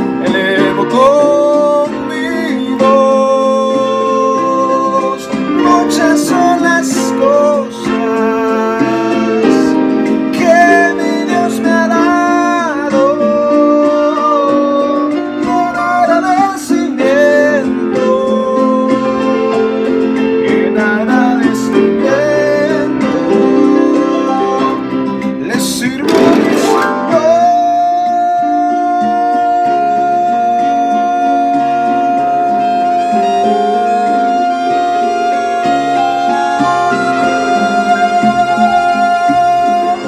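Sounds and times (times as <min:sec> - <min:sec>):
electronic keyboard melody over chords: 0:00.0 - 0:40.0.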